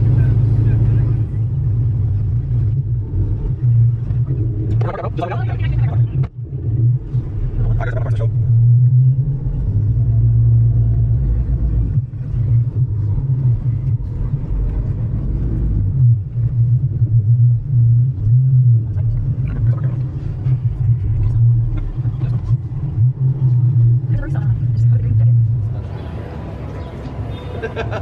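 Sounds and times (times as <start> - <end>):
car engine low rumble: 0.0 - 28.0.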